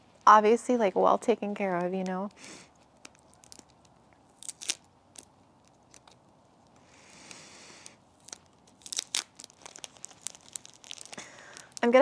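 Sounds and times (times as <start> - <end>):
plastic packaging crackling: 1.4 - 12.0
plastic peeling rustle: 1.4 - 12.0.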